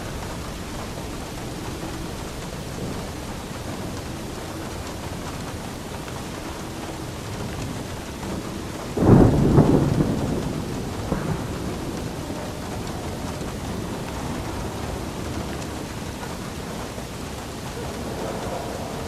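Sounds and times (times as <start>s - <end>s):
steady rain: 0.0s - 19.0s
thunder clap rumbling: 0.0s - 19.0s.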